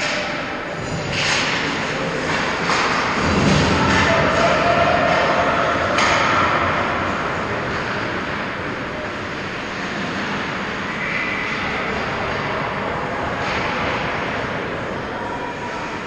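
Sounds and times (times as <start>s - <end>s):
indoor ice rink background rush: 0.0s - 16.0s.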